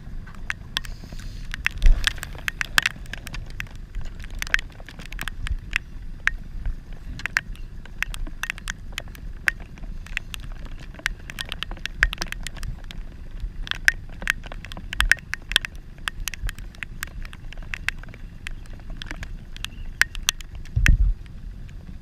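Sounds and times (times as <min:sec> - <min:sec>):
low rain rumble: 0:00.0 - 0:22.0
raindrops striking camera: 0:00.0 - 0:22.0.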